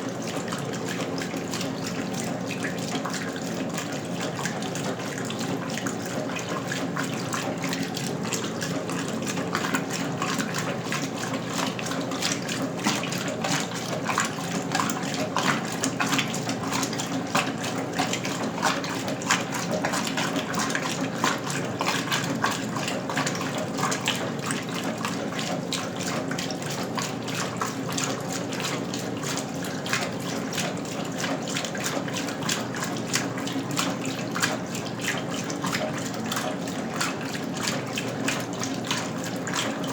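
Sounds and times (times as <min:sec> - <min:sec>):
water splashing in washing machine: 0:00.0 - 0:39.9.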